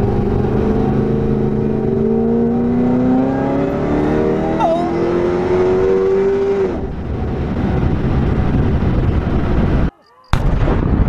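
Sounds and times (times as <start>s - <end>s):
engine accelerating hard: 0.0s - 9.9s
road noise: 0.0s - 10.1s.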